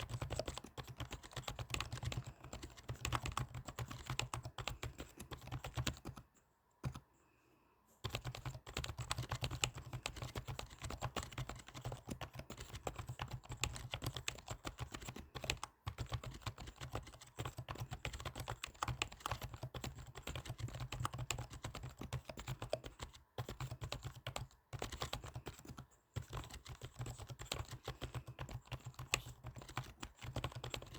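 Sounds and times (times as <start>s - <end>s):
keyboard typing: 0.0s - 7.0s, 8.0s - 30.9s.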